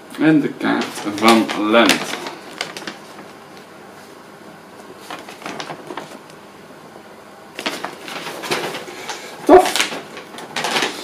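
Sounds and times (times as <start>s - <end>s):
paper map rustling and crackling: 0.6s - 6.4s, 7.5s - 11.0s.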